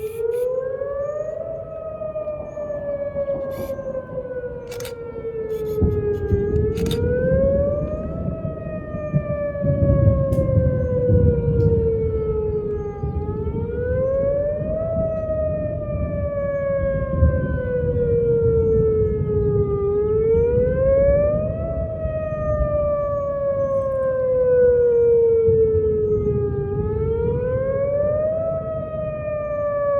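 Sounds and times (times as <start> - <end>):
warning siren wailing: 0.0 - 29.9.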